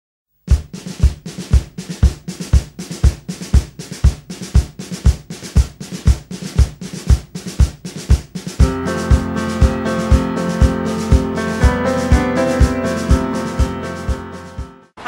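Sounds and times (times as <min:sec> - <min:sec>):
drum kit playing steady beat: 0:00.4 - 0:15.0.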